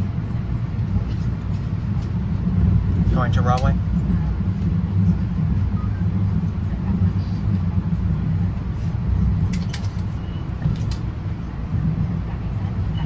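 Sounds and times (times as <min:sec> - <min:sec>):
train coach rumbling on rails: 0:00.0 - 0:13.0.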